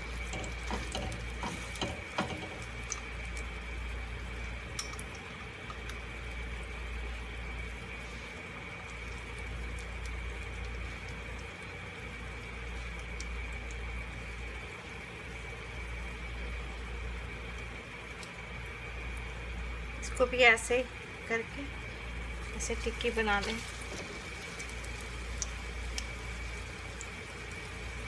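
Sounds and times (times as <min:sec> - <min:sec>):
oil sizzling in a frying pan: 0:00.0 - 0:28.0.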